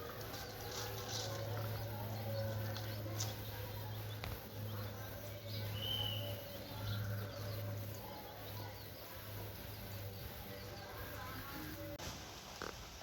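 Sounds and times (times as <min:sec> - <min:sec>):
steady low hum: 0:00.0 - 0:12.0
chickens and birds chirping: 0:00.0 - 0:13.0.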